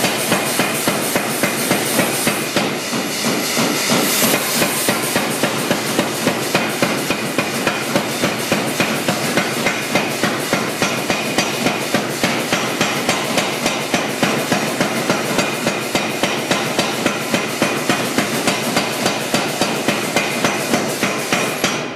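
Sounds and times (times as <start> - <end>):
machine running noise: 0.0 - 21.9
power hammer striking hot steel: 0.0 - 21.9.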